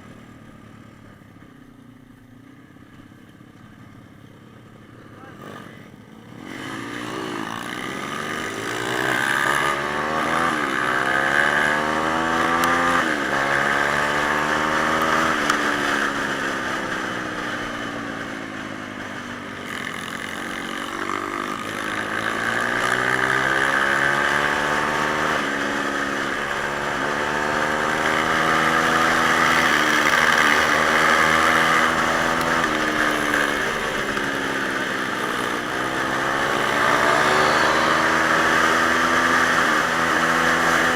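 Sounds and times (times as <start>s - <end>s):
pit bike engine revving: 5.2s - 40.9s.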